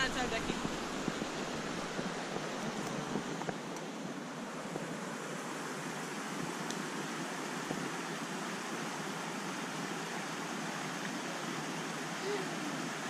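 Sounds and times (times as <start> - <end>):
flowing creek: 0.0 - 13.0.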